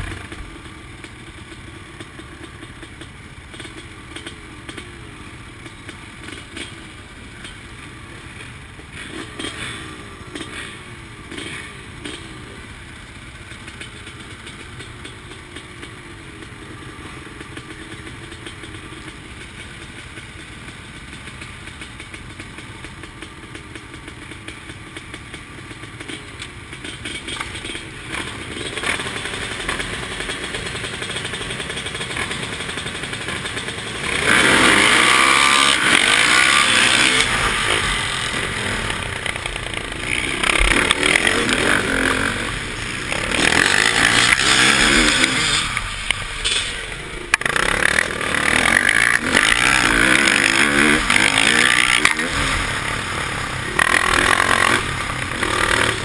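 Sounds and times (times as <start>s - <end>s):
dirt bikes accelerating hard: 0.0s - 21.2s, 23.1s - 56.0s
dirt bike engines idling: 0.0s - 56.0s.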